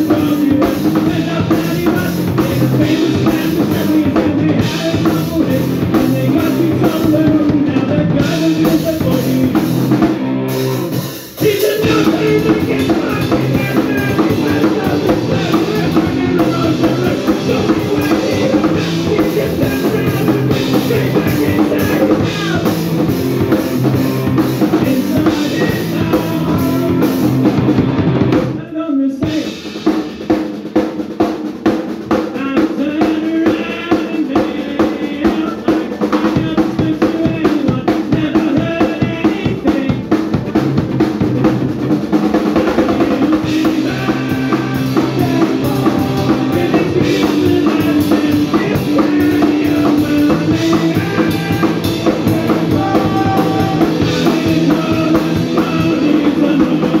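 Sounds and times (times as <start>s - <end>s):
drums: 0.0s - 57.0s
live punk band playing: 0.0s - 57.0s.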